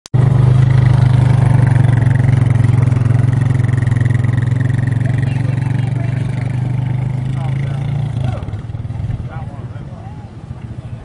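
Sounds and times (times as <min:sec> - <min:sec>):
large engine running: 0:00.2 - 0:11.0.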